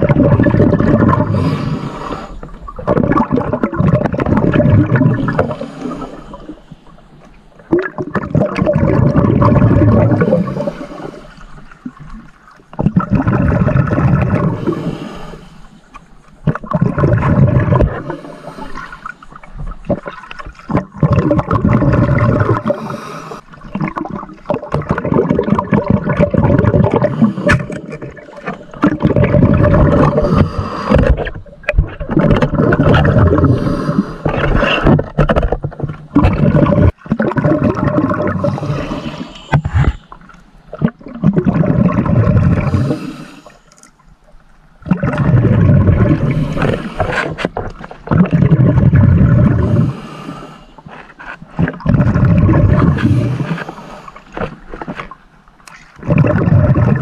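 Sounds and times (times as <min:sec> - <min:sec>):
water gurgling and sloshing: 0:00.0 - 0:57.0.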